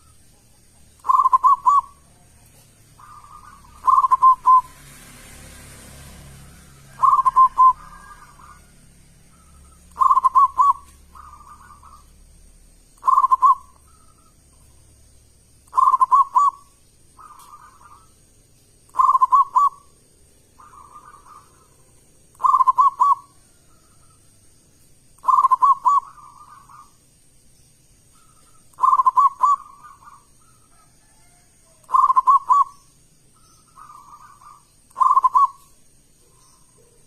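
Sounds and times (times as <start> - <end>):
dove cooing: 0.0 - 4.8, 6.0 - 14.8, 15.6 - 18.2, 18.9 - 24.2, 25.2 - 27.0, 28.1 - 37.0.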